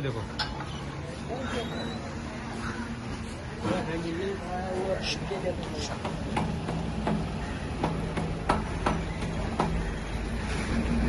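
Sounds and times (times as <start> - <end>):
diesel generator hum: 0.0 - 11.0.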